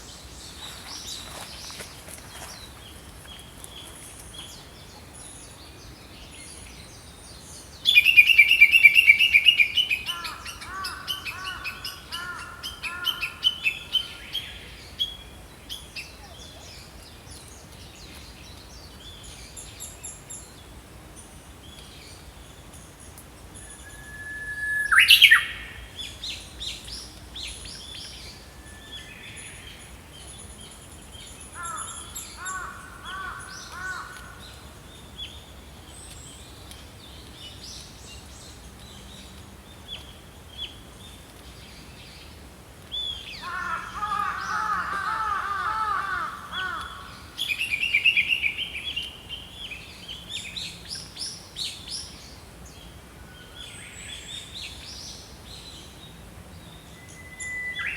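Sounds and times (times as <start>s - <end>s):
faint outdoor background noise: 0.0s - 57.9s
songbirds singing and calling: 0.0s - 57.9s.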